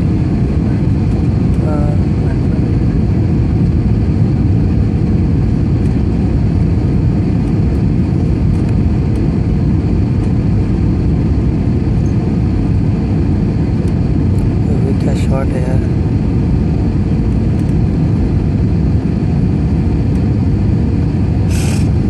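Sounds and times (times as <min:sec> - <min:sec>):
jet engines and airflow rumble: 0:00.0 - 0:22.0.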